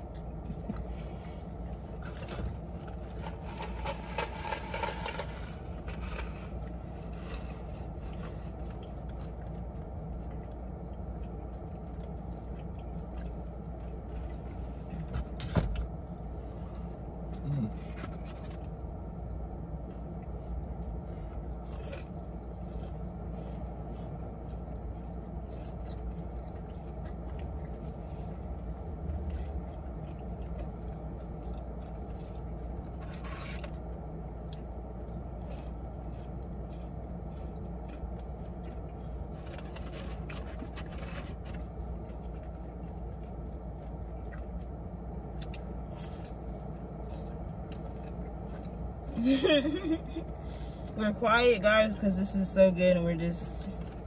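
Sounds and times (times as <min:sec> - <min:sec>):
low hum inside a car: 0:00.0 - 0:54.0.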